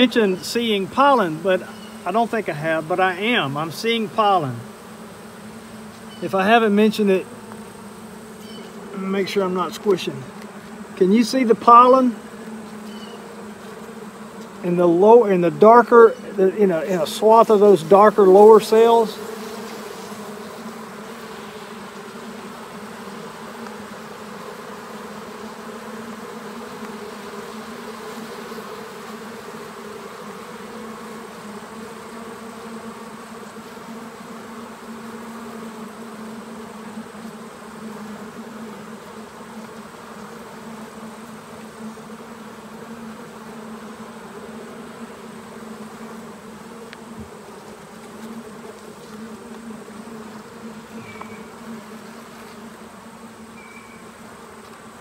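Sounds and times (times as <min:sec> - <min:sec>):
bees humming: 0:00.0 - 0:55.0.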